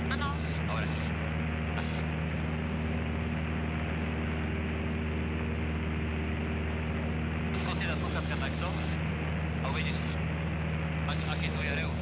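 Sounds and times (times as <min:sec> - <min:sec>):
light aircraft engine droning: 0:00.0 - 0:12.0.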